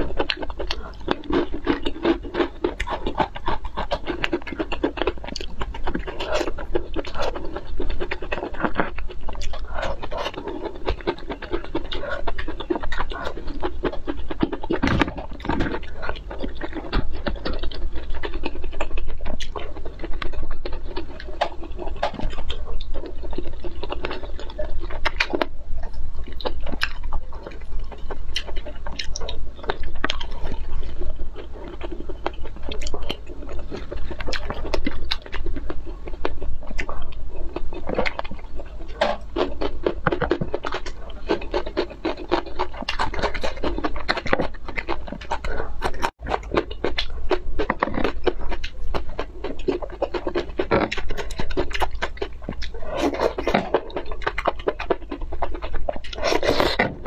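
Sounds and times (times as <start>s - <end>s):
chewing and mouth sounds: 0.0s - 57.0s.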